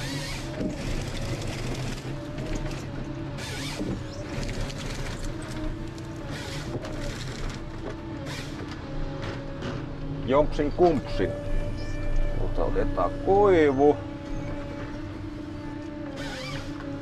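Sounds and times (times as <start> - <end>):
engine running: 0.0 - 17.0
hydraulic whine: 0.0 - 17.0.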